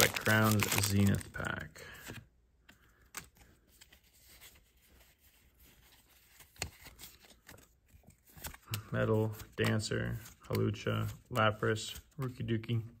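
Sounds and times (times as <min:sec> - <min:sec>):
cards ticking and rustling: 0:00.0 - 0:04.8, 0:05.8 - 0:12.9.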